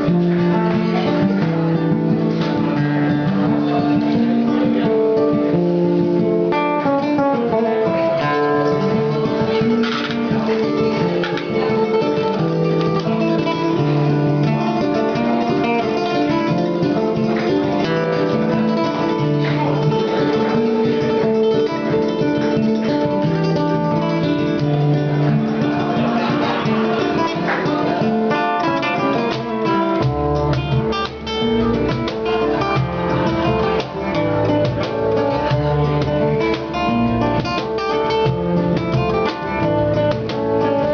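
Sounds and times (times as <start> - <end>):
flamenco acoustic guitar: 0.0 - 40.9.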